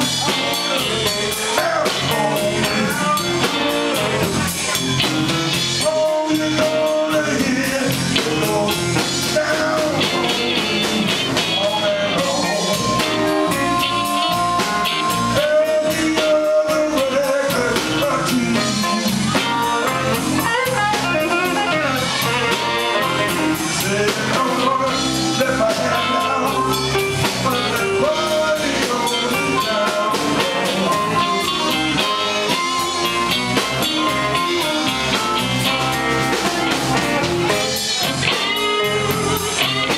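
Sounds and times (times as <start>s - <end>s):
blues harmonica bending notes: 0.0s - 39.9s
electric blues band playing: 0.0s - 39.9s.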